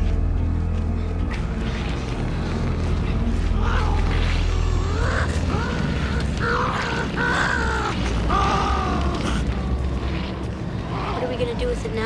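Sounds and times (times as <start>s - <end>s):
deep steady low rumble: 0.0s - 12.0s.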